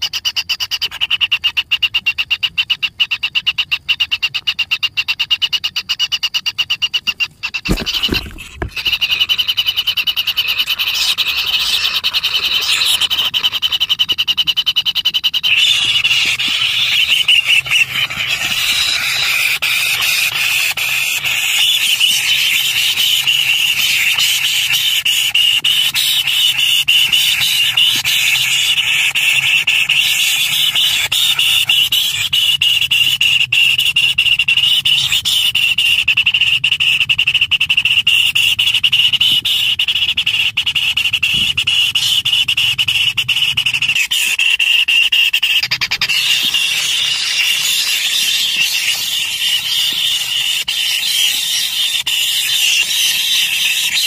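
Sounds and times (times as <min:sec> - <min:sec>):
nestlings squealing calls: 0:00.1 - 0:54.0.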